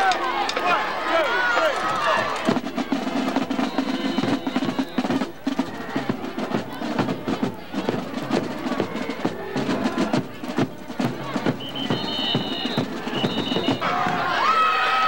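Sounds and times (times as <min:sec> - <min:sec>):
band music: 0:02.0 - 0:14.5
drums beating quick strokes: 0:02.2 - 0:14.5.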